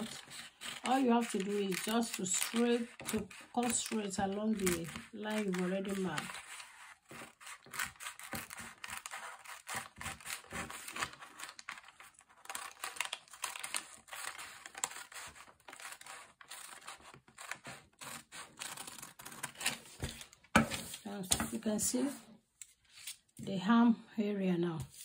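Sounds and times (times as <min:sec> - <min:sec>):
scissors snipping paper: 0:00.0 - 0:20.3.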